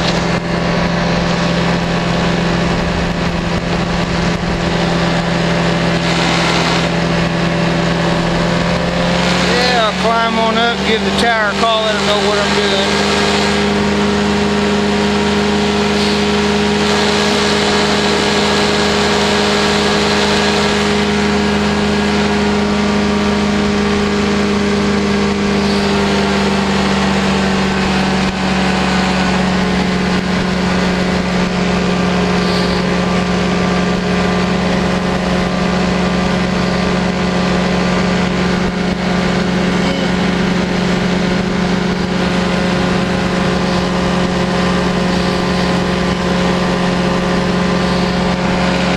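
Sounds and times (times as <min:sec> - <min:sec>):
engine and propeller running: 0:00.0 - 0:48.9.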